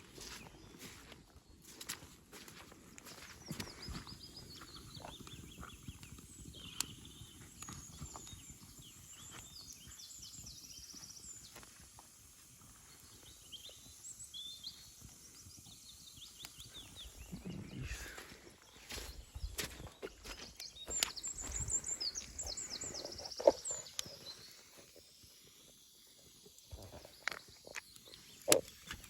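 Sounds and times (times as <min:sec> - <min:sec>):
songbirds chirping and trilling: 0:00.0 - 0:29.0.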